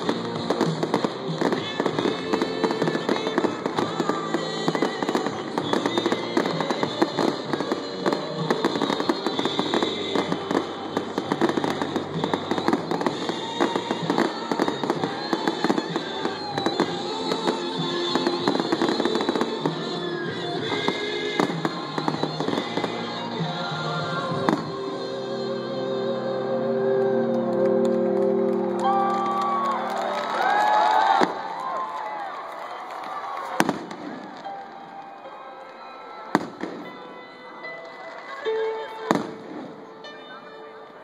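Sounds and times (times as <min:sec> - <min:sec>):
fireworks bursting and crackling: 0:00.0 - 0:25.0, 0:30.0 - 0:40.0
music playing: 0:00.0 - 0:41.0.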